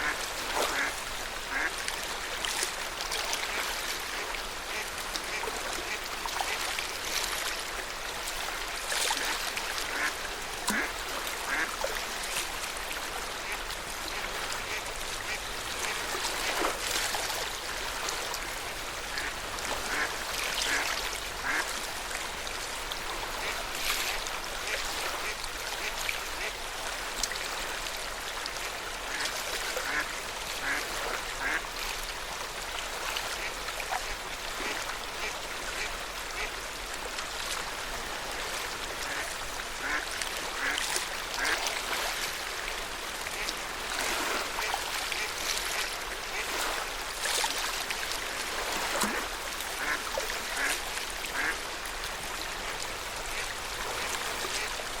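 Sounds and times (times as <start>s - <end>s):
small waves lapping on shore: 0.0s - 55.0s.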